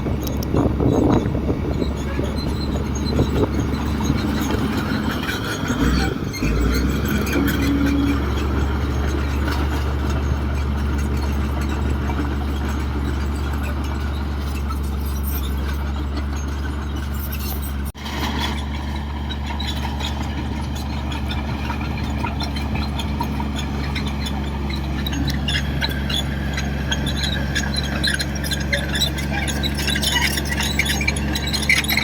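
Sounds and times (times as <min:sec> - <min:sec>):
bulldozer diesel engine droning: 0:00.0 - 0:32.0
high squeaks and clinks: 0:00.2 - 0:32.0.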